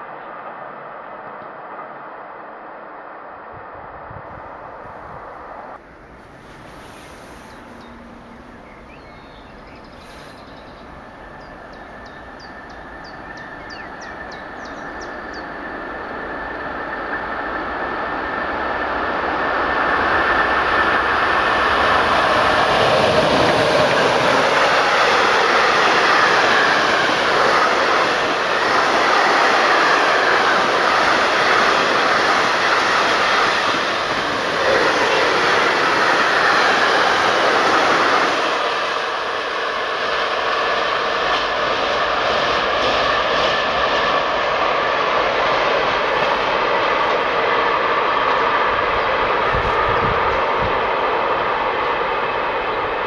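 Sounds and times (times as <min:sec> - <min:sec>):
train high whine: 0:00.0 - 0:53.0.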